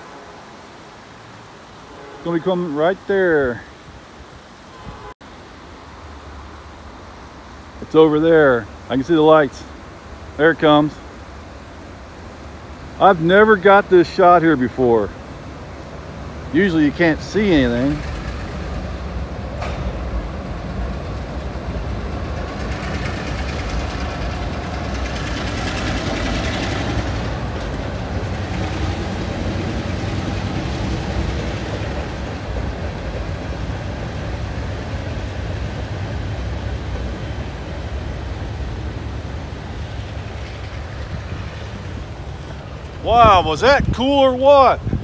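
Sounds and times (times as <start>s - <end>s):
freight train rolling across bridge: 0.0s - 45.0s.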